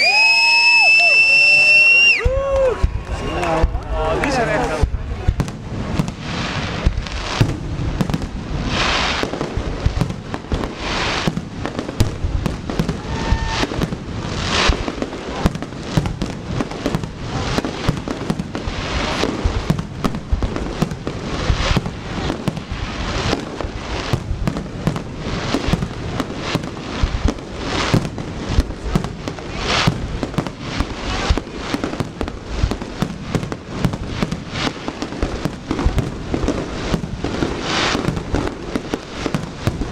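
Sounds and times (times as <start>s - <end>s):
fireworks bangs and crackling: 0.0s - 39.9s
fireworks booming bursts: 0.0s - 39.9s.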